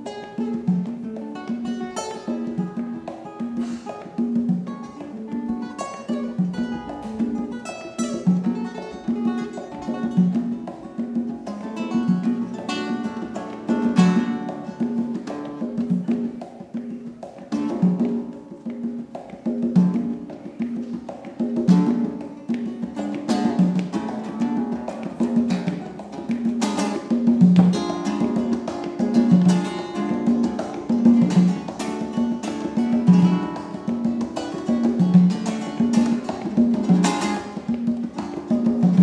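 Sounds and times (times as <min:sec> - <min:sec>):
congas playing: 0:00.0 - 0:39.0
nylon-string guitar strummed: 0:00.0 - 0:39.0.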